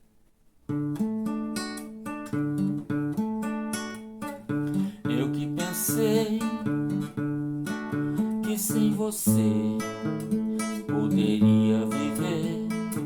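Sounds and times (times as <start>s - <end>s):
acoustic guitar strumming chords: 0.7s - 13.0s.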